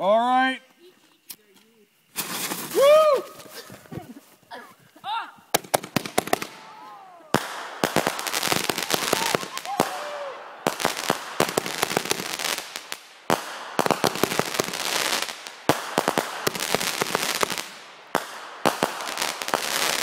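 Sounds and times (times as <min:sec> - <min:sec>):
fireworks popping and crackling: 0:01.3 - 0:04.2, 0:05.4 - 0:20.0.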